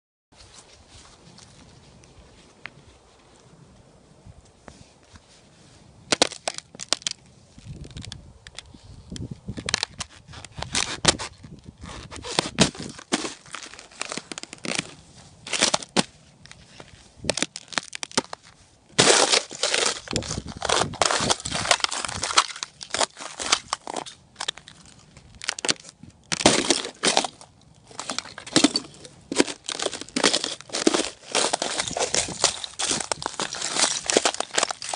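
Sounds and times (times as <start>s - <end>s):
footsteps crunching ice and snow: 6.0s - 34.9s.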